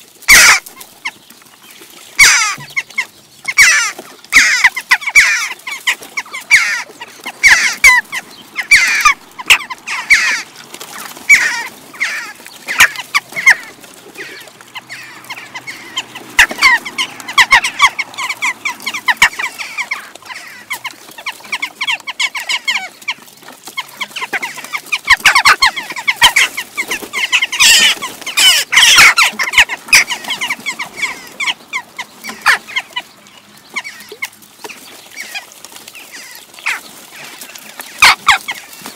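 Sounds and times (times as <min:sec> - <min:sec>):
jackdaws calling: 0:00.3 - 0:01.2, 0:02.2 - 0:38.9.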